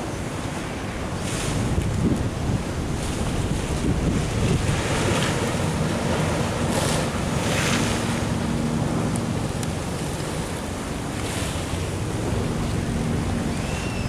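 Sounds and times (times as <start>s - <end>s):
wind buffeting microphone: 0.8s - 14.0s
ocean waves washing against wall: 1.0s - 14.0s.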